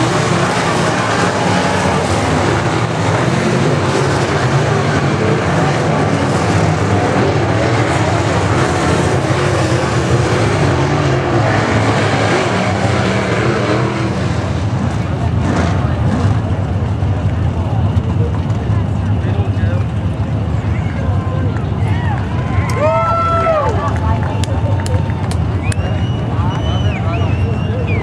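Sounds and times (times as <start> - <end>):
race car engines wavering: 0.0 - 28.0.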